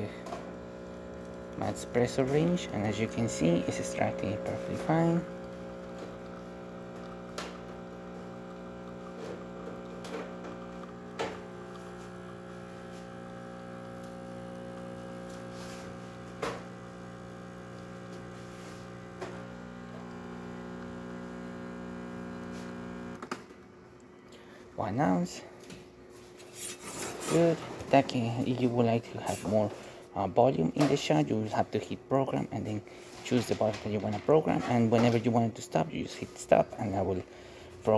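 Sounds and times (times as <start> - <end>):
espresso machine pump humming: 0.0 - 23.3, 26.0 - 37.9.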